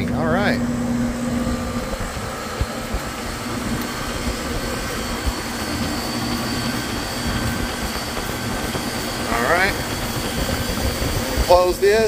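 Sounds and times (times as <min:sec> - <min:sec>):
faint high whine: 0:00.0 - 0:12.0
refrigeration unit humming: 0:00.0 - 0:12.0.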